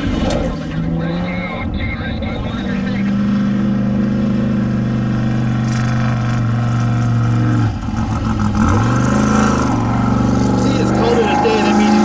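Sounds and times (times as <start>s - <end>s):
race vehicle engine revving: 0.0s - 12.0s.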